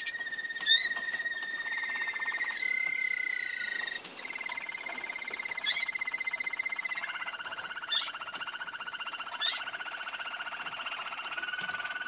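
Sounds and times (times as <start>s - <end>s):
canary trilling: 0.0s - 12.0s.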